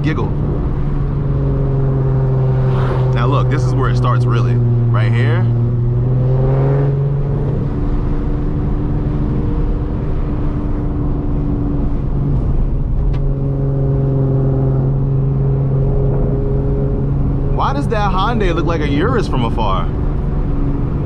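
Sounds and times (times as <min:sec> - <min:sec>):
car engine and exhaust drone: 0:00.0 - 0:21.0.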